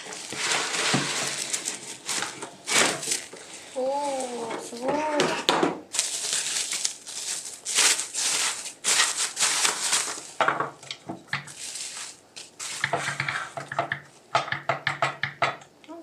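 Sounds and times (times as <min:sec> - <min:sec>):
packaging rustling and crinkling: 0:00.0 - 0:13.9.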